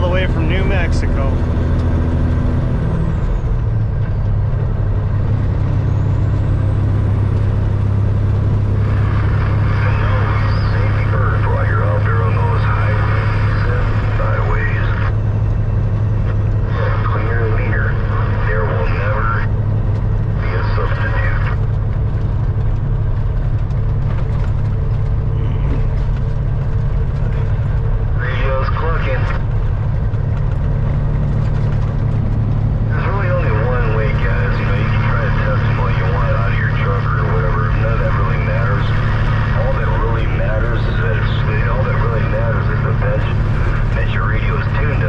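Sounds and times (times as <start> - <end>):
diesel truck engine droning: 0.0 - 45.0
tyre and road noise: 0.0 - 45.0.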